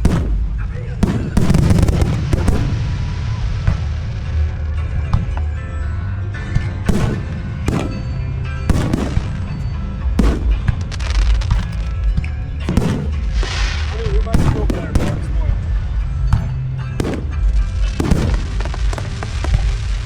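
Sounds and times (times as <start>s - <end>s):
firework shells booming: 0.0s - 5.6s, 6.6s - 20.0s
fireworks crackling: 0.0s - 5.6s, 6.8s - 20.0s
deep rumble: 0.0s - 20.0s
music: 0.0s - 20.0s.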